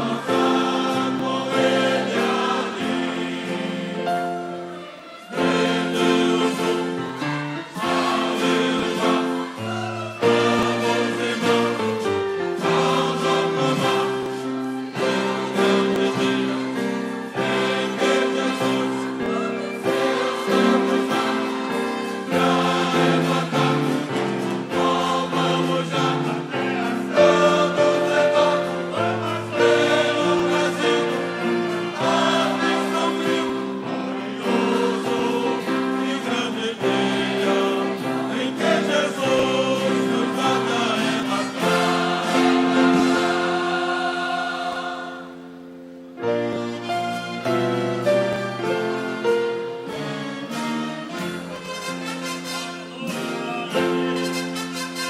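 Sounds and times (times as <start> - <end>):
choir singing gospel song: 0.0 - 55.0.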